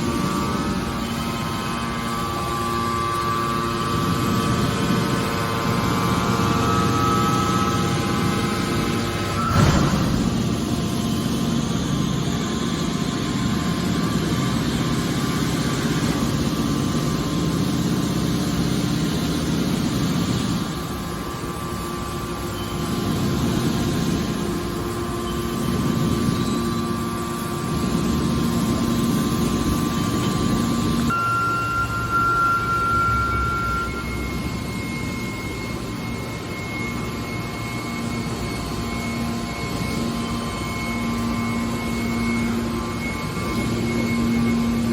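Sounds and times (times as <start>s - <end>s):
baling press machine hum: 0.0s - 44.9s.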